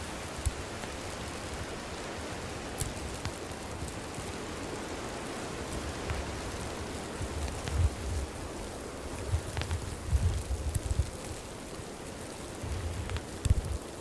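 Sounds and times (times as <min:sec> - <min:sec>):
campfire hissing: 0:00.0 - 0:14.0
fire crackles and pops: 0:00.0 - 0:14.0.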